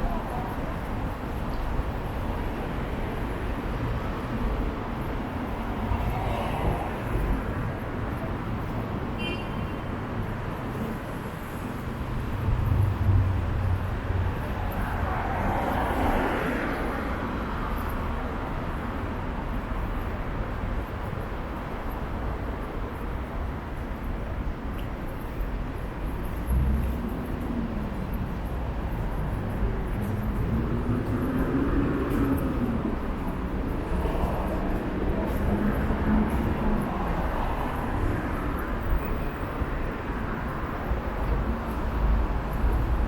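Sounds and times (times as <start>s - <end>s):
traffic hum: 0.0s - 43.0s.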